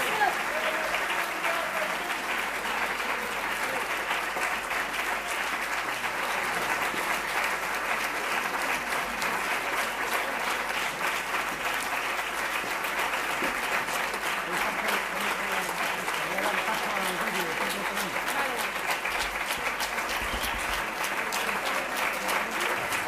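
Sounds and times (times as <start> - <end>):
large audience applauding: 0.0 - 23.0.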